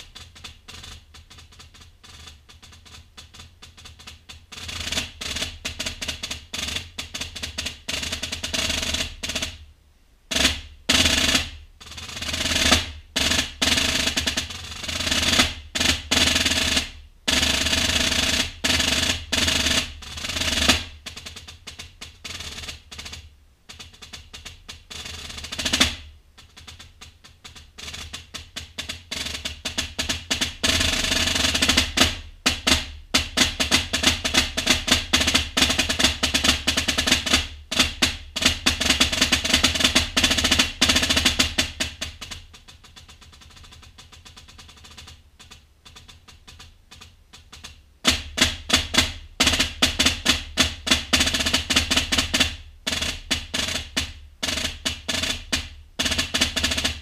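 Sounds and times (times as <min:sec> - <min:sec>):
snare drum strokes and rolls: 0:00.0 - 0:09.6, 0:10.3 - 0:57.0.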